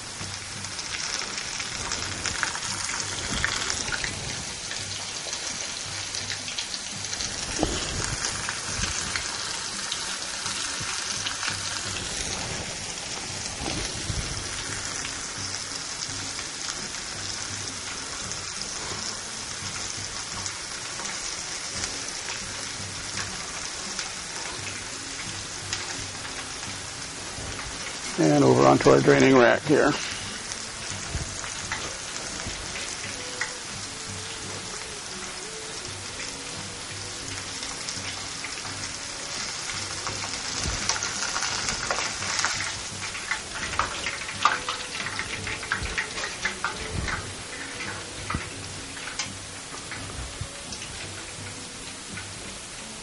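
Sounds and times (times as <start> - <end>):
chicken deep-frying in oil: 0.0 - 53.0
oil popping: 0.0 - 53.0.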